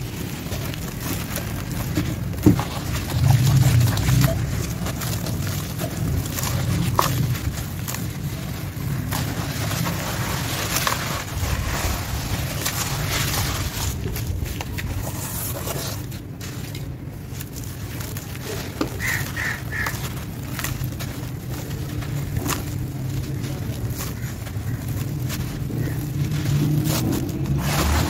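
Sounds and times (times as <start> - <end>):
gritty crunching into water: 0.0 - 28.0
low rumble: 0.0 - 28.0.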